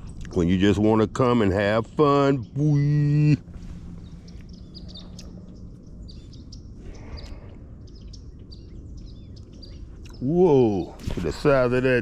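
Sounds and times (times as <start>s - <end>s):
small birds chirping: 0.0s - 12.0s
steady low background noise: 0.0s - 12.0s.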